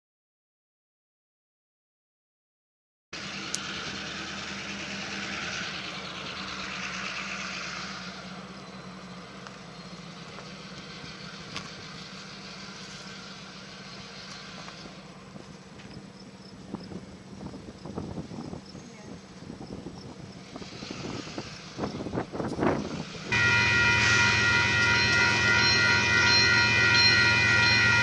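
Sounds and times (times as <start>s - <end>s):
engine humming: 3.2s - 28.0s.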